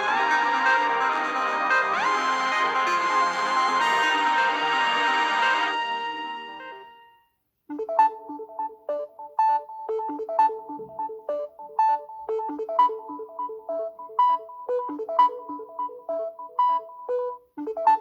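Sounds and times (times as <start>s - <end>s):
phone ringtone melody: 0.0s - 7.0s, 7.7s - 18.0s.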